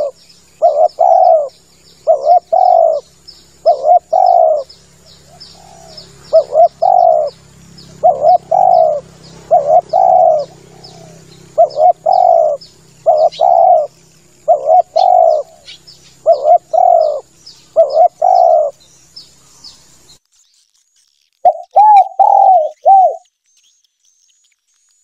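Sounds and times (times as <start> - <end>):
dove cooing: 0.0 - 19.5, 21.4 - 23.3
faint small birds chirping: 0.0 - 25.0.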